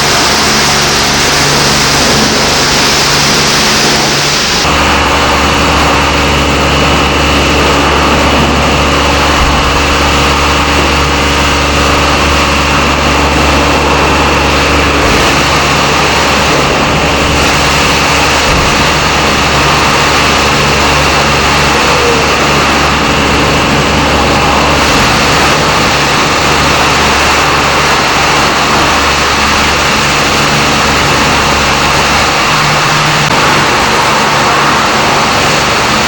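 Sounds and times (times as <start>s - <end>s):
low motor hum: 0.0s - 36.0s.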